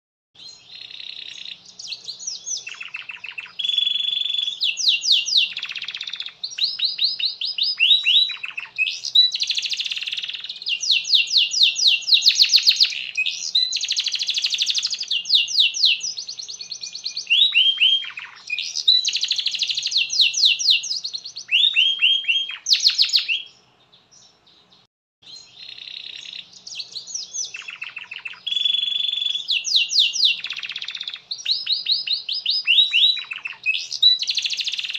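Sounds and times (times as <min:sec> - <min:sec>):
canary singing trills: 0:00.4 - 0:34.9.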